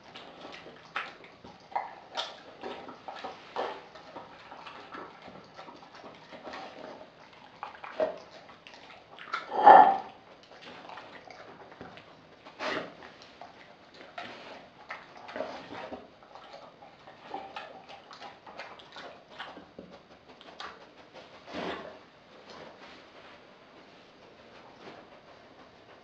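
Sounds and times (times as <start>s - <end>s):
dog chewing and smacking: 0.0s - 26.0s.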